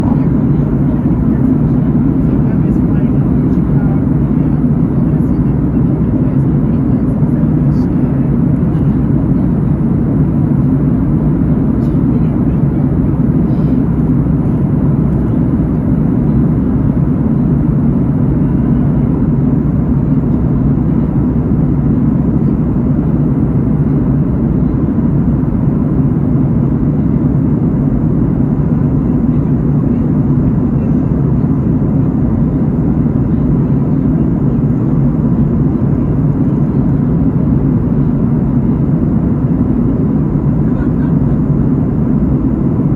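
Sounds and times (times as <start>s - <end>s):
aircraft cabin engine drone: 0.0s - 42.9s
faint steady whine: 0.0s - 42.9s.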